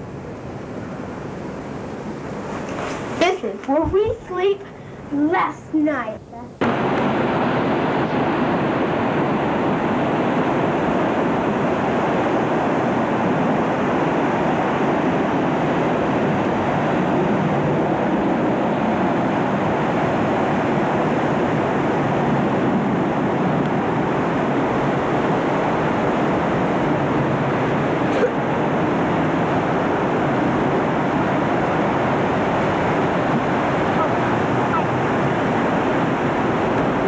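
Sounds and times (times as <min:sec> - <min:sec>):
ocean surf roaring: 0:00.0 - 0:37.0.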